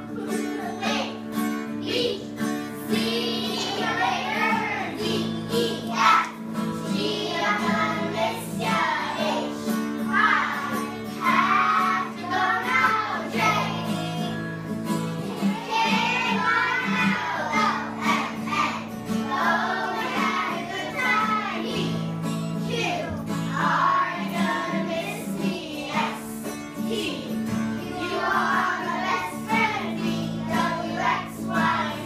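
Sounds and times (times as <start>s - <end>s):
acoustic guitar: 0.0s - 32.0s
children singing: 0.0s - 32.0s.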